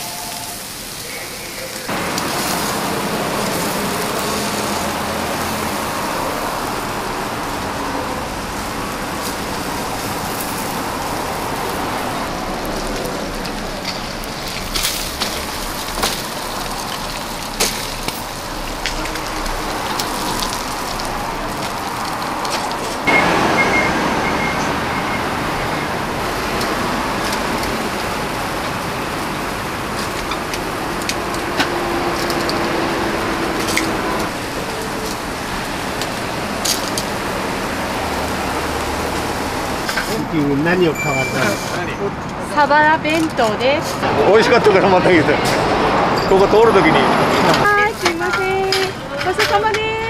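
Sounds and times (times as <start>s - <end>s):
charcoal grill sizzling: 0.0s - 50.0s.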